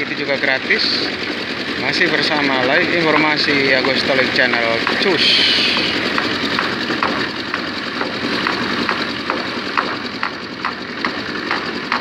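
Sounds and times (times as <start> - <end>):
concrete mixer engine drone: 0.0 - 12.0.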